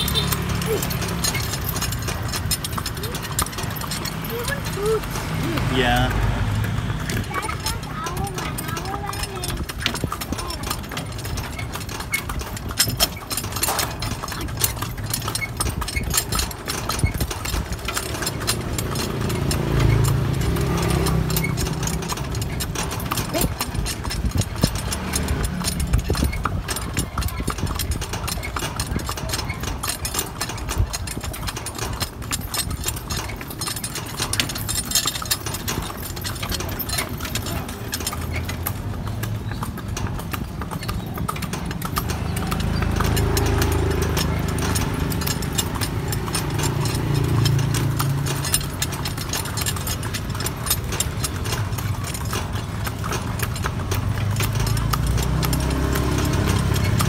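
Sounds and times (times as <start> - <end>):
horse hooves clip-clopping on road: 0.0 - 57.0.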